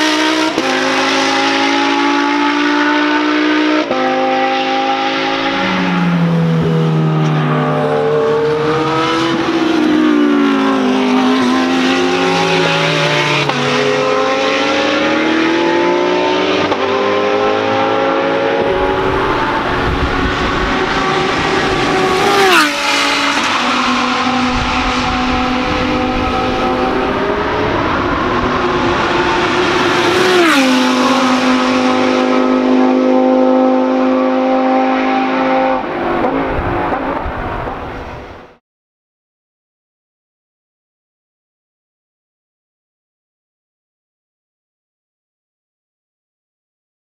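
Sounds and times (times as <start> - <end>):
race car engines: 0.0 - 38.6
race car passing close: 0.0 - 38.6.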